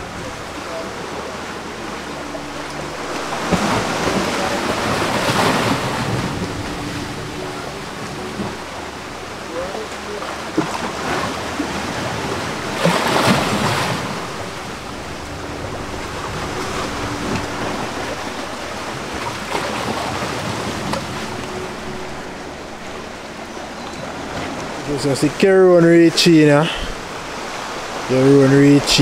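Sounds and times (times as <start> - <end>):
sea waves washing ashore: 0.0 - 29.0.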